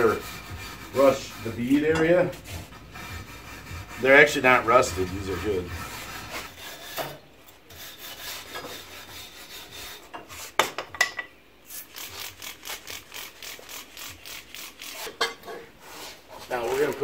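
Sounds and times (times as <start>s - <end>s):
wire brush scrubbing metal: 0.0s - 7.1s, 7.7s - 10.6s, 11.7s - 17.0s.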